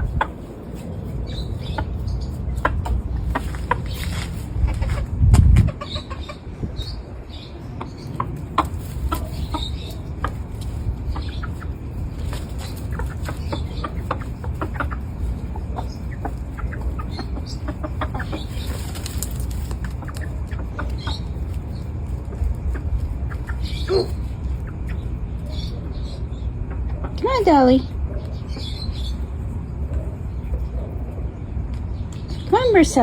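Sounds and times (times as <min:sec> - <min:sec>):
chickens clucking softly: 0:00.0 - 0:07.0, 0:07.6 - 0:27.2.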